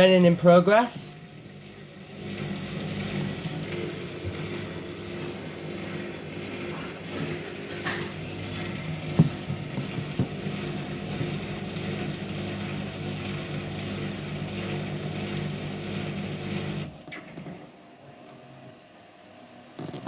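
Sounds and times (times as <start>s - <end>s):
washing machine drain pump humming: 0.0s - 17.7s.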